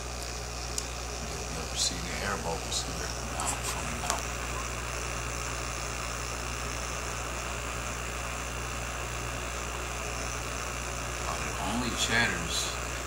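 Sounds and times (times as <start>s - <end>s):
pump humming and chattering: 0.0s - 13.0s.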